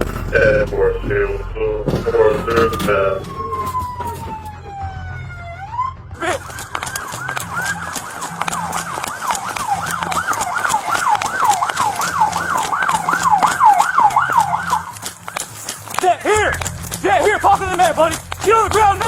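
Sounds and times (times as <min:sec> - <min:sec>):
police siren yelping: 0:00.3 - 0:15.9, 0:16.6 - 0:19.0.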